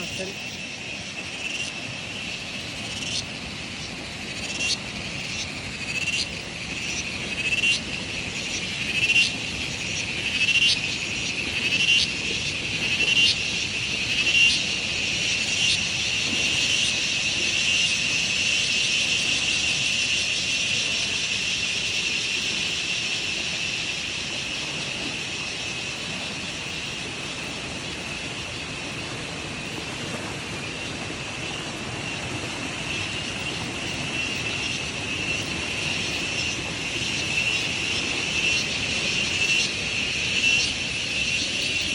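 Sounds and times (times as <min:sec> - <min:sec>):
insects trilling: 0:00.0 - 0:41.9
sharp pulsed insect calls: 0:00.0 - 0:41.9.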